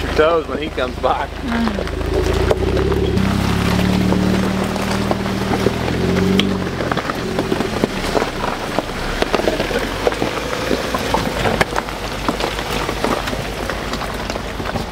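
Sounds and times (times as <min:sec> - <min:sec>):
low engine hum: 0:00.0 - 0:14.9
tyres crunching over gravel and sticks: 0:00.0 - 0:14.9.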